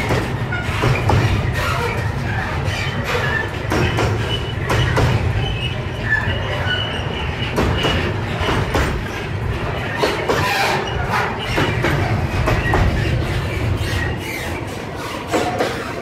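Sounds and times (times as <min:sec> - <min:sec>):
freight train rumbling past: 0:00.0 - 0:16.0
high wheel squeaks: 0:00.4 - 0:16.0.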